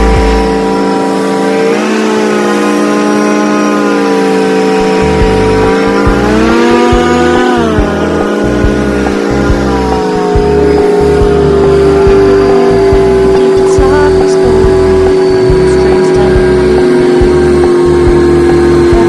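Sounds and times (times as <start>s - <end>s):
airboat engine and propeller: 0.0s - 19.0s.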